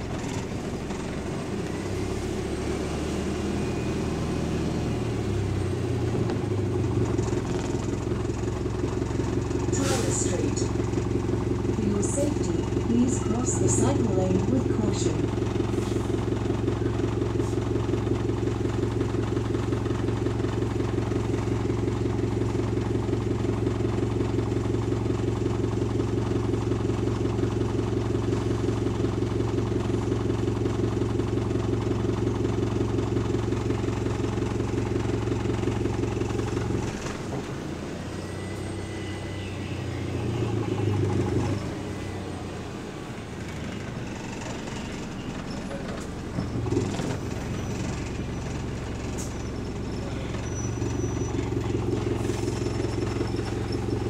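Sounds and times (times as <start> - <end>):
bus engine running while moving: 0.0 - 54.0
diesel bus engine idling: 0.0 - 54.0.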